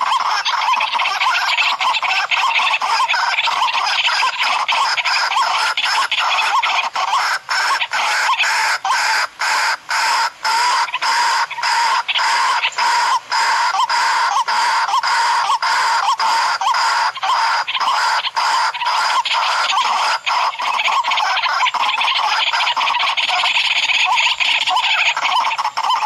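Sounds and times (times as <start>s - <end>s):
waterhen call: 0.0s - 26.0s.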